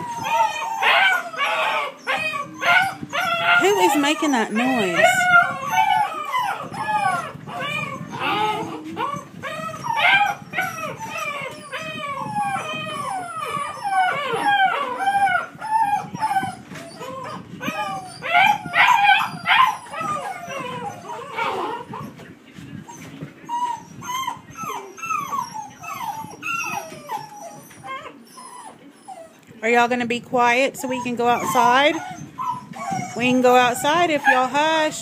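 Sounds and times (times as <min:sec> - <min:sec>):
puppies whining and crying: 0:00.0 - 0:35.0.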